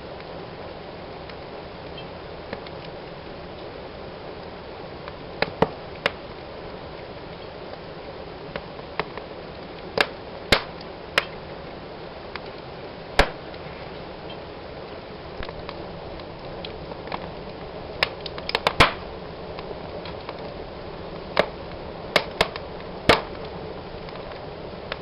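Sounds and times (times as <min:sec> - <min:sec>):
hiss of flames: 0:00.0 - 0:25.0
wood fire crackling and popping: 0:00.0 - 0:25.0.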